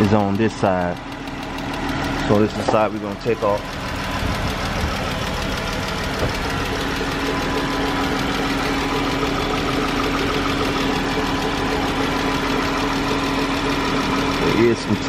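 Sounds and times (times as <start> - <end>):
car engine idling: 0.0 - 15.0
rapid valvetrain ticking: 0.0 - 15.0.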